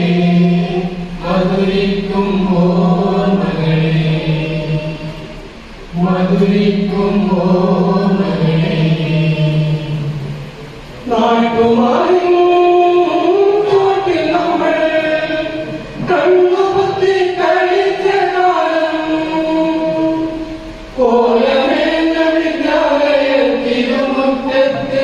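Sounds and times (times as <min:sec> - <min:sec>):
group of voices singing: 0:00.0 - 0:25.0.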